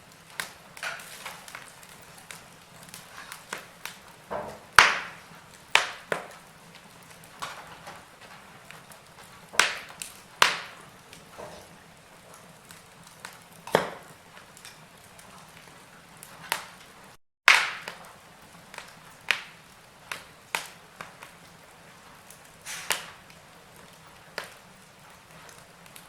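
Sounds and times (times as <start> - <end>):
logs popping and crackling: 0.0 - 26.0
wood fire hissing: 0.0 - 26.0.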